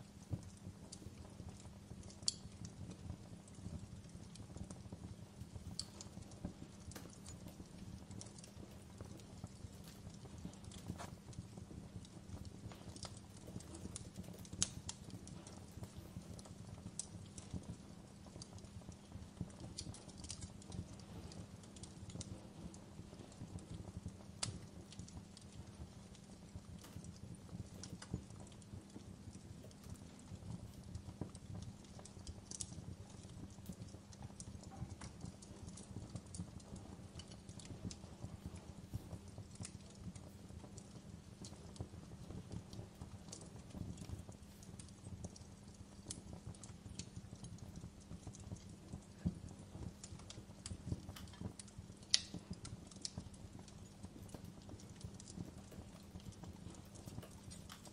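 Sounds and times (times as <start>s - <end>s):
fireplace crackling and popping: 0.0s - 57.9s.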